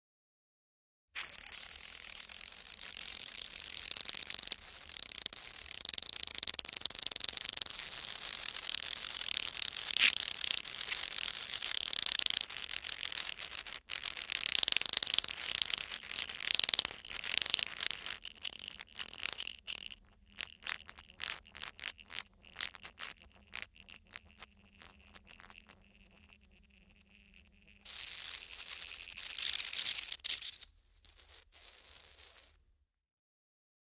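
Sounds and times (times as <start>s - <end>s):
coins squealing on dry ice: 1.2s - 32.6s.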